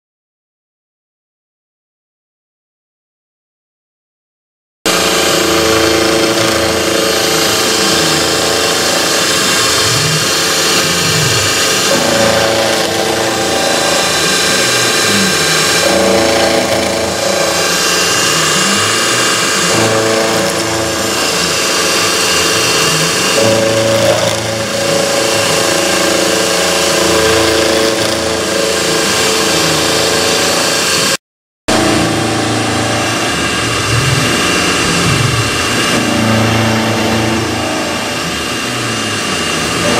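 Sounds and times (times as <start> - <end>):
mill cutting metal: 4.9 - 39.9.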